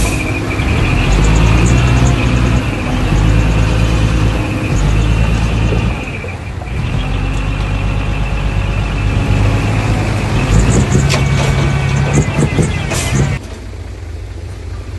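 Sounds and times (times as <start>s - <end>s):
heavy diesel machinery running: 0.0s - 14.9s.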